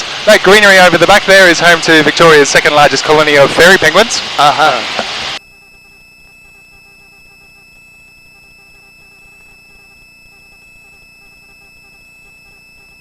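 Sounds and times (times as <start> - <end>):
helicopter cabin whine: 0.0 - 13.0.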